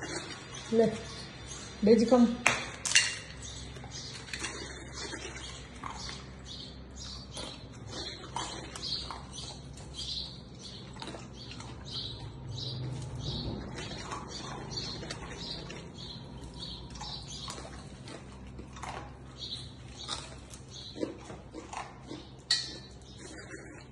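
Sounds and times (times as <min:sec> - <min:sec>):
puppy crunching kibble: 0:02.6 - 0:23.9.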